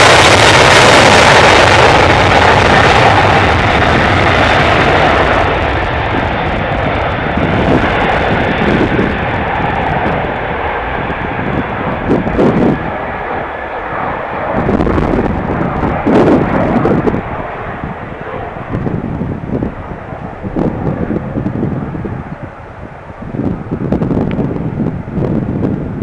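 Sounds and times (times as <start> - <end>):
jet engines roaring at takeoff: 0.0 - 26.0
wind buffeting microphone: 0.0 - 26.0.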